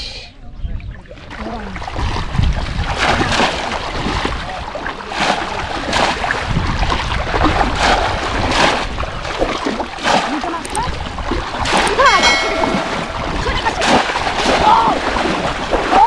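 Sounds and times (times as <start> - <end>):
shallow water splashing and sloshing: 0.9 - 16.0.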